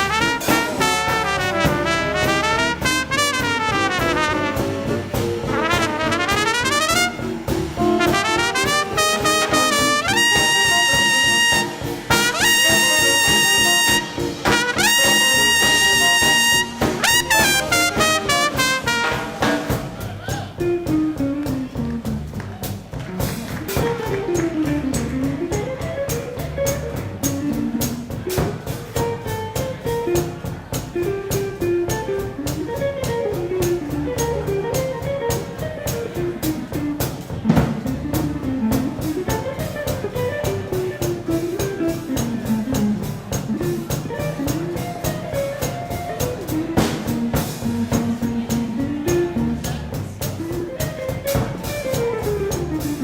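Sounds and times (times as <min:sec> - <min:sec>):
swing band playing: 0:00.0 - 0:53.0.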